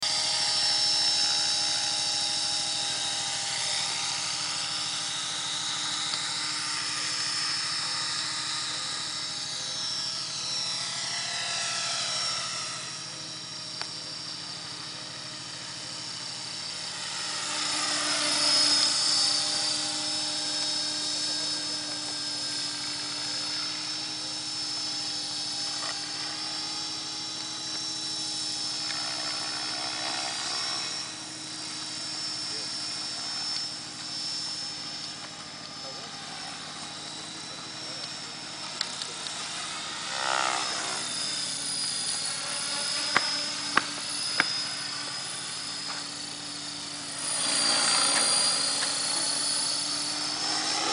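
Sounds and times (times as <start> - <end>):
rc helicopter motor whine: 0.0 - 50.9.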